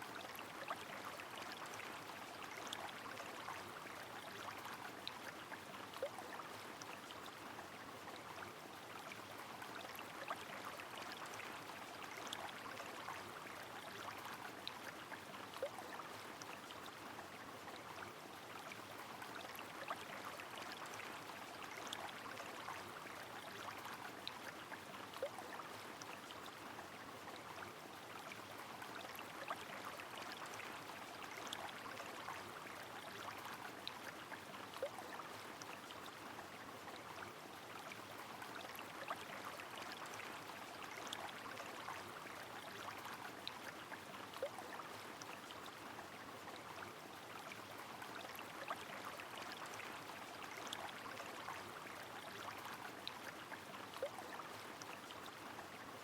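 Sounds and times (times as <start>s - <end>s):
river water running: 0.0s - 56.0s.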